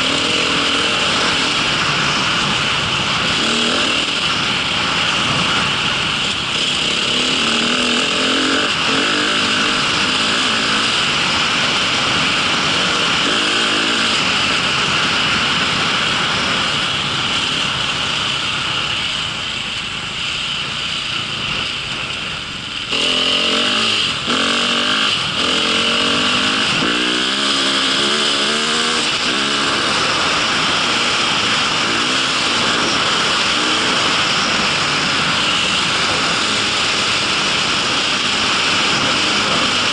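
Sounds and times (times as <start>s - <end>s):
vehicle engine revving: 0.0s - 17.5s, 22.7s - 39.9s
steady rushing noise: 0.0s - 39.9s.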